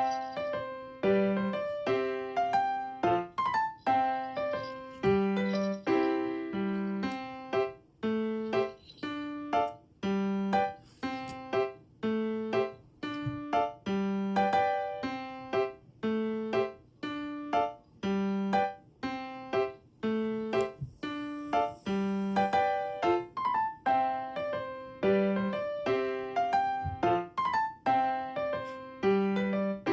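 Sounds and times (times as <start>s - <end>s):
bouncy piano tune: 0.0s - 29.9s.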